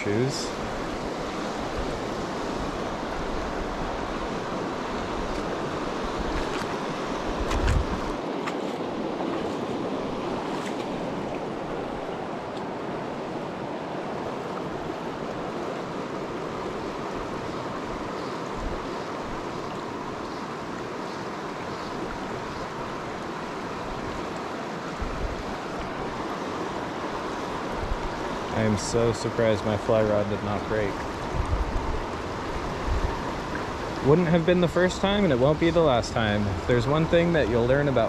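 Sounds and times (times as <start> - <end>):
stream rushing over boulders: 0.0 - 38.0.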